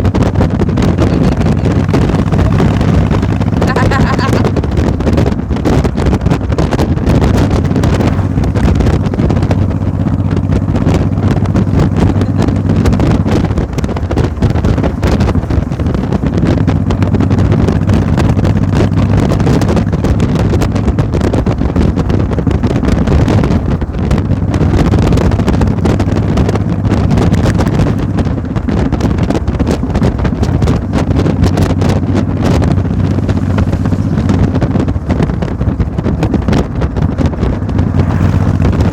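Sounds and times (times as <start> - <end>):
steady engine drone: 0.0 - 38.9
wind buffeting microphone: 0.0 - 38.9.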